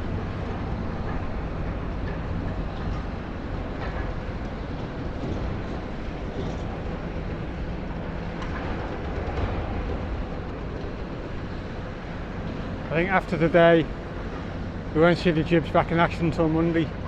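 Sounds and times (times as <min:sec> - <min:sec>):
excavator diesel engines running: 0:00.0 - 0:17.0.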